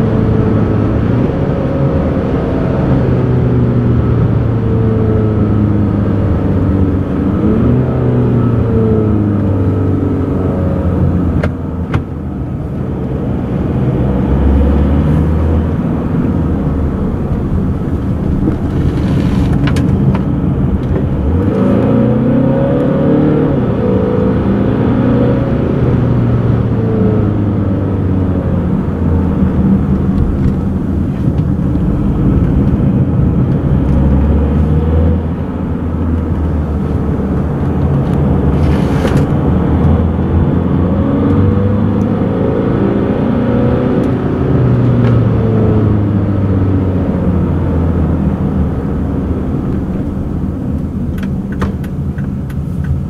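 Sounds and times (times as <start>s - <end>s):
car engine from inside cabin: 0.0s - 53.0s
tyre and road noise: 0.0s - 53.0s.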